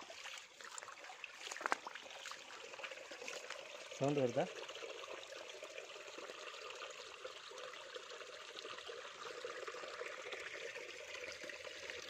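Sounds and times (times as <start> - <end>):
spring water trickling: 0.0 - 12.0.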